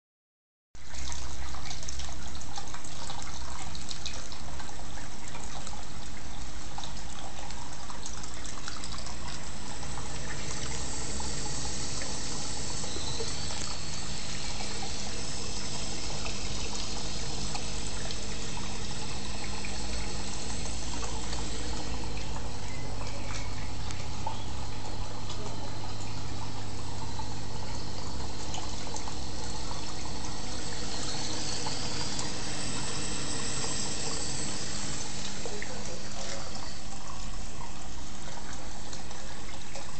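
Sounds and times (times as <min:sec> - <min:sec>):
low pump hum: 0:00.8 - 0:39.9
water splashing and trickling: 0:00.8 - 0:39.9.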